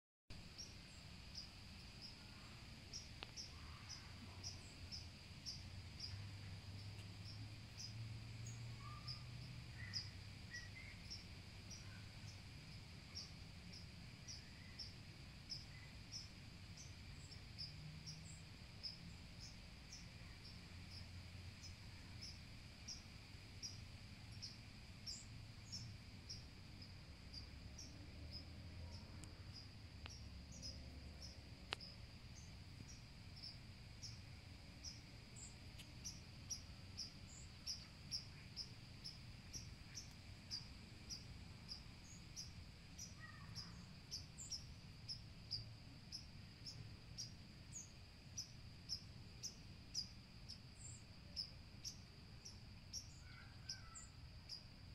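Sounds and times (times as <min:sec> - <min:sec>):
faint low rumble: 0:00.3 - 0:47.8
insect chorus trilling: 0:00.4 - 0:54.9.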